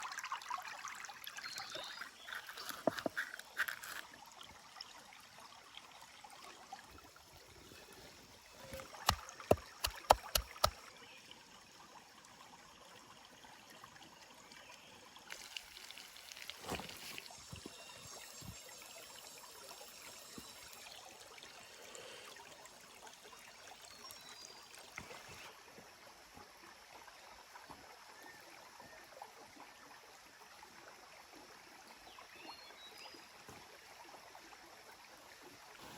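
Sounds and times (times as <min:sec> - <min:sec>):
stream water flowing: 0:00.0 - 0:35.9.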